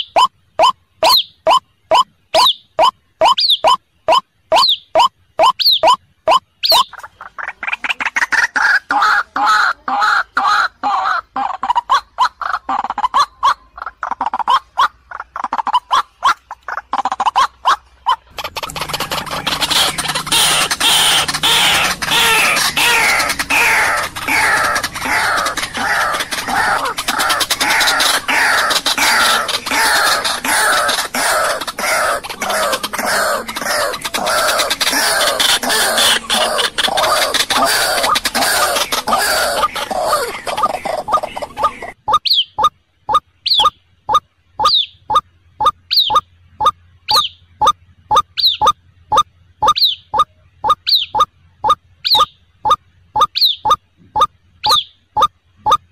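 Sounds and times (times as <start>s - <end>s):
waterhen croaking calls: 0.0s - 55.9s.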